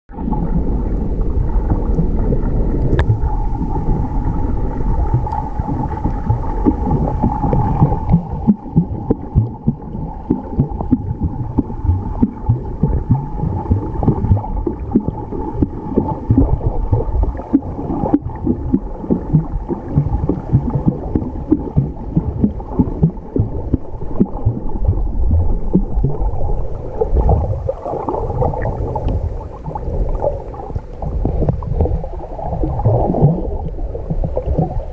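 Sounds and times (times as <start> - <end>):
steady hum: 0.1 - 17.5, 18.1 - 34.9
underwater sloshing and gurgling: 0.1 - 34.9.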